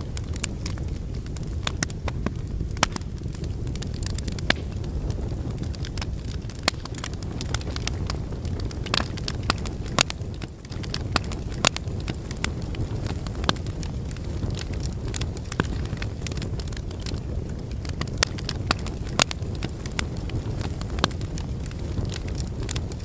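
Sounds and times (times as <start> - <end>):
low rumble of flames: 0.0 - 23.0
wood crackling and popping: 0.0 - 23.0.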